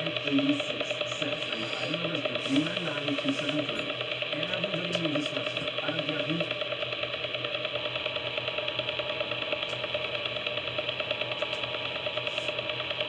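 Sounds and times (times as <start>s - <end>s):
rhythmic electronic buzzing: 0.0s - 13.0s.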